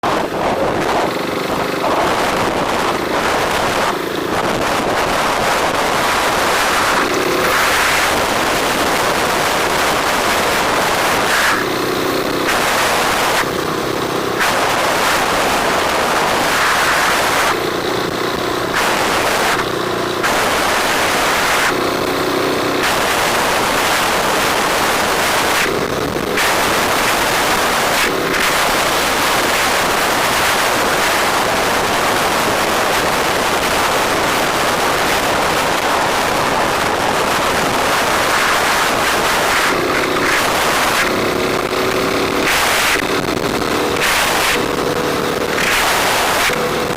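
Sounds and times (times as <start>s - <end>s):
motorcycle engine low hum: 0.0s - 46.9s
wind rushing over microphone: 0.0s - 46.9s.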